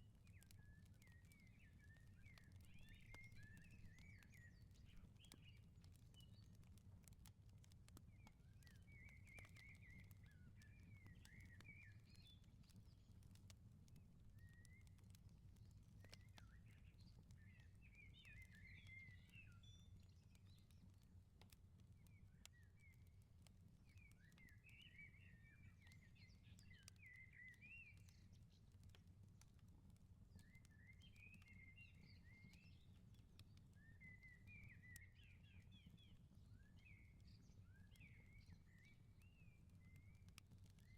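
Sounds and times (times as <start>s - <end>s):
wood fire crackling: 0.0s - 34.1s, 34.9s - 40.9s.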